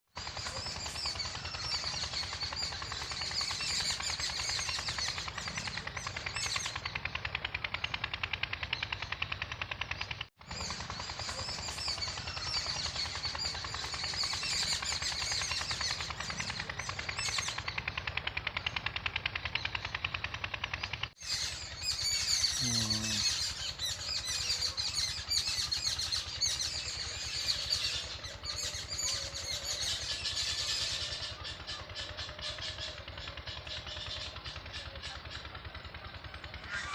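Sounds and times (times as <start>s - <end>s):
birds chirping in chorus: 0.2s - 36.9s.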